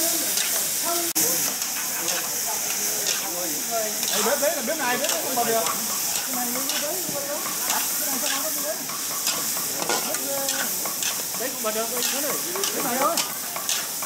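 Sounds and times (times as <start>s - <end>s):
squid sizzling in a wok: 0.0s - 14.0s
utensils scraping and knocking pan: 1.4s - 3.3s, 4.0s - 14.0s.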